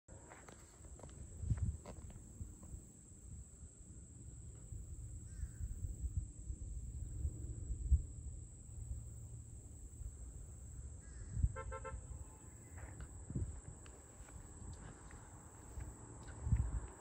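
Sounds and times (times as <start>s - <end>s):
high insect drone: 0.2s - 17.0s
wind rumble on microphone: 0.5s - 17.0s.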